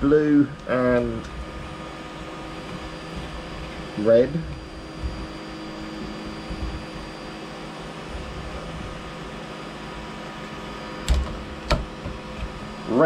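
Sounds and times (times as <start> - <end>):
electric fan hum: 0.0 - 13.0
faint high whine: 0.0 - 13.0.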